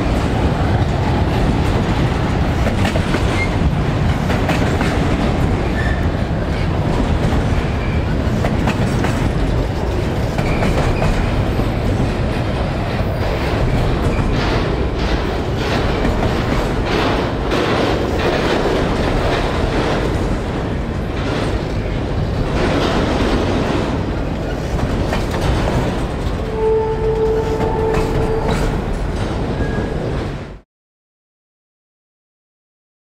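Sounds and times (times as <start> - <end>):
train wheels rumbling on rails: 0.0 - 30.6
clicks over rail joints: 1.2 - 30.3.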